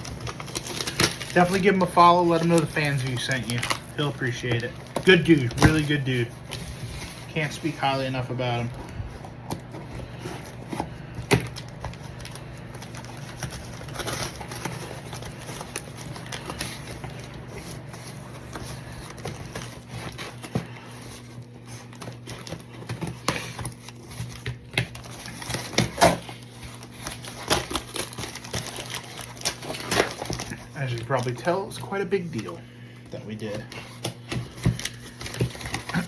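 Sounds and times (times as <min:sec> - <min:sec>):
low steady hum: 0:00.0 - 0:36.0
packaging crinkling: 0:00.0 - 0:36.0.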